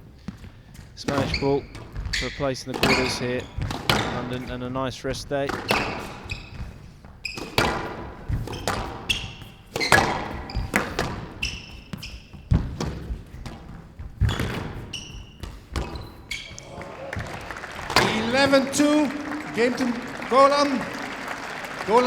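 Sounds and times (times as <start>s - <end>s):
shoes squeaking on court floor: 0.0s - 22.0s
squash ball hits echoing: 1.1s - 4.5s, 5.4s - 22.0s.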